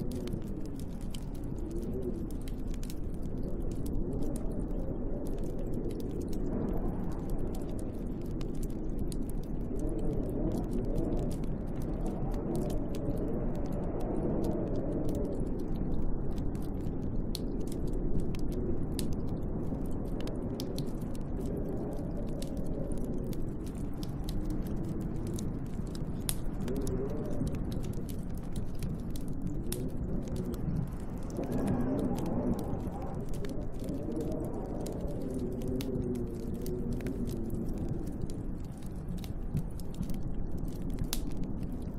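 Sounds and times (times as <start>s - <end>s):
wind howling: 0.0s - 41.9s
wood fire crackling: 0.0s - 41.9s.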